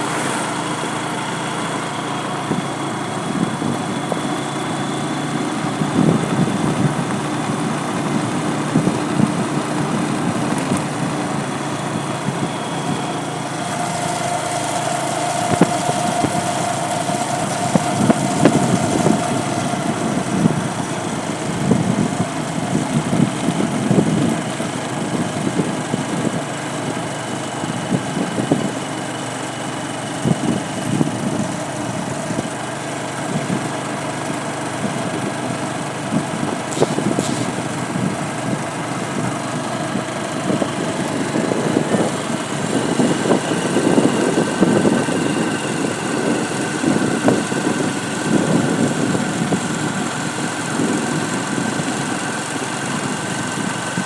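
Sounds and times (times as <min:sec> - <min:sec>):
vehicle engine running roughly: 0:00.0 - 0:54.0.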